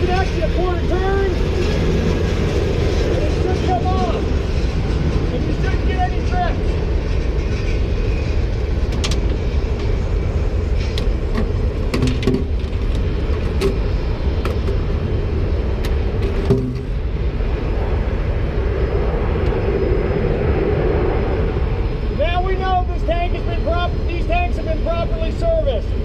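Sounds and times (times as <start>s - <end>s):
low mechanical rumble: 0.0s - 26.0s.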